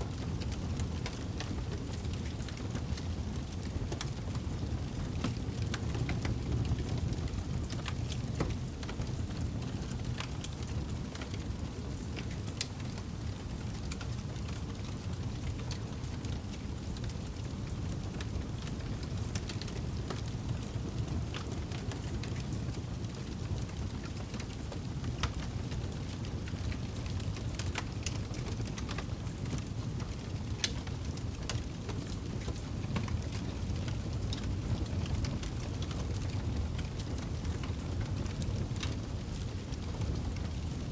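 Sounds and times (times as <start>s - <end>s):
low fire rumble: 0.0s - 40.9s
campfire crackling and popping: 0.2s - 40.8s.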